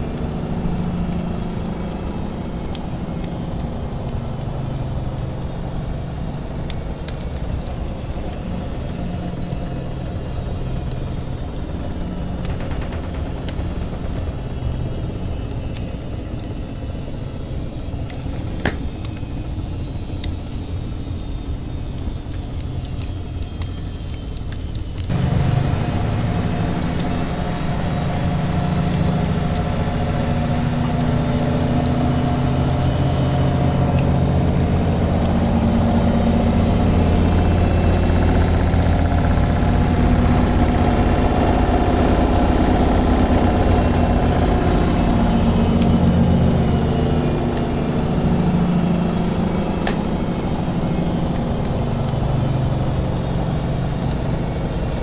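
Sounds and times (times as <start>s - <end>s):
wood fire crackling: 0.0s - 19.3s, 21.8s - 55.0s
washing machine humming: 0.0s - 20.6s, 25.0s - 55.0s.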